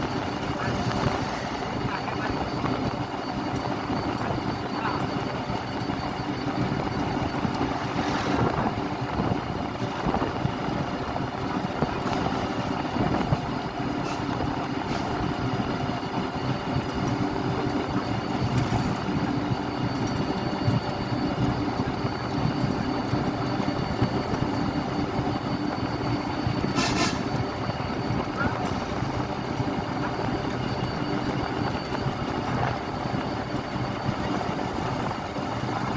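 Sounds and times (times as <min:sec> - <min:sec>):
road traffic passing: 0:00.0 - 0:05.6, 0:06.4 - 0:35.9.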